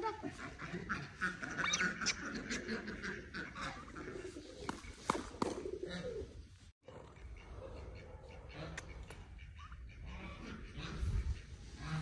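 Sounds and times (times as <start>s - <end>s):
ducks quacking: 0.0s - 5.0s, 6.9s - 12.0s
poultry calls: 0.3s - 5.1s, 7.2s - 12.0s.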